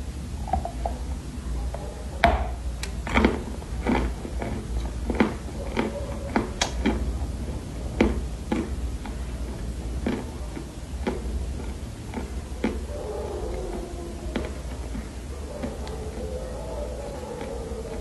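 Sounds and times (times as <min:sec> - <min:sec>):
steady low hum: 0:00.0 - 0:18.0
dry clay being chewed: 0:02.4 - 0:18.0.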